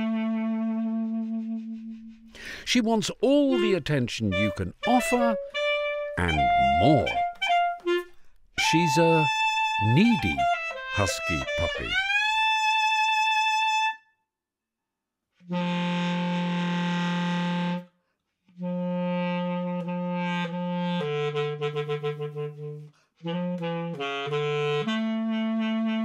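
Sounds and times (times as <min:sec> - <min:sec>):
solo basset horn: 0:00.0 - 0:02.3, 0:03.5 - 0:14.0, 0:15.4 - 0:17.9, 0:18.5 - 0:26.0.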